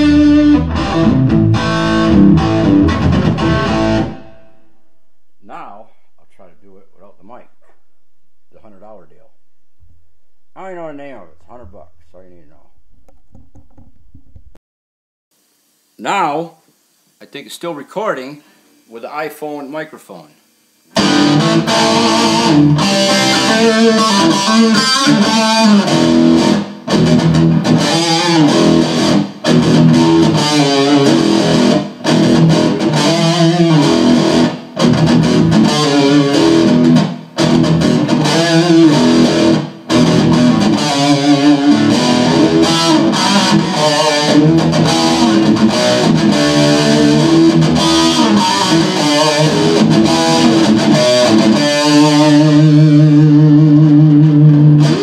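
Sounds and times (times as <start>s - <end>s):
electric guitar lead with bent notes: 0.0s - 14.6s, 20.9s - 55.0s.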